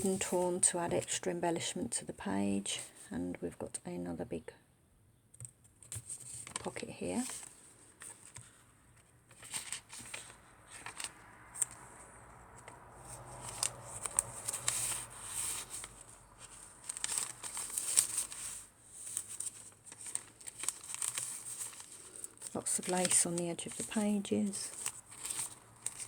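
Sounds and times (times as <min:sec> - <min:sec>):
paper rustling and crinkling: 0:00.0 - 0:01.2, 0:05.8 - 0:26.0.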